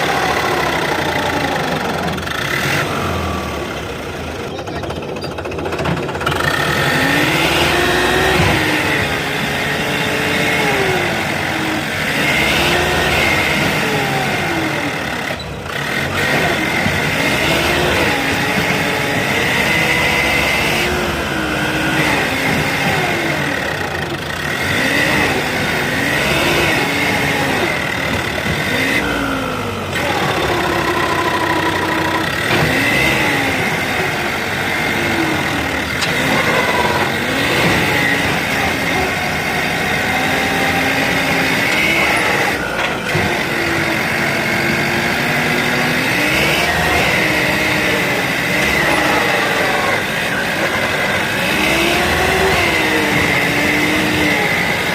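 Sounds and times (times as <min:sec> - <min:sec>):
tractor diesel engine revving: 0:00.0 - 0:54.9.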